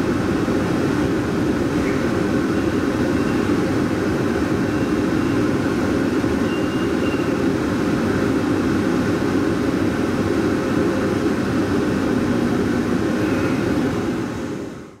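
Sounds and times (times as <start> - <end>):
train cabin rumble and hum: 0.0 - 15.0.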